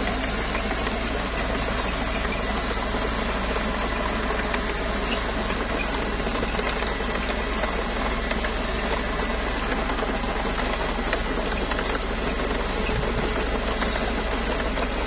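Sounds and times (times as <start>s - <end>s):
diesel engine clattering: 0.0s - 15.0s.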